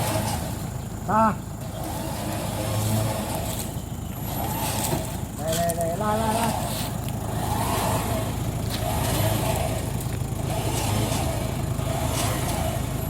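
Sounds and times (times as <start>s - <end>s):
motor winch running under load: 0.0s - 13.0s.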